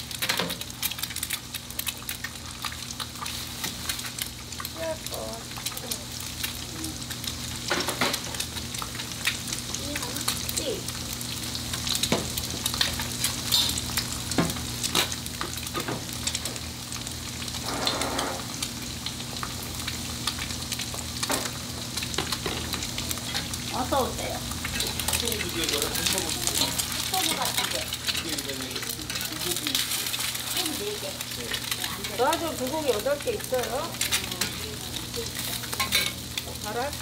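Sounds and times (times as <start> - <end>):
food sizzling on griddle: 0.0 - 37.0.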